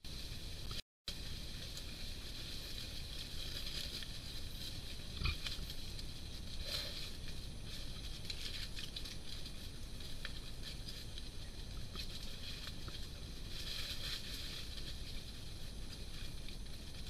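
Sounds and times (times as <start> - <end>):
pigs rooting through dry leaves: 0.1 - 17.0
steady high hiss: 0.1 - 17.0.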